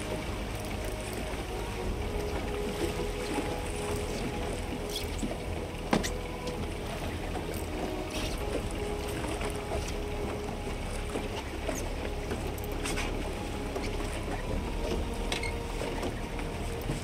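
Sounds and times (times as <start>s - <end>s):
outboard motor running: 0.0s - 17.0s
water against hull: 0.0s - 17.0s
wind: 0.0s - 17.0s.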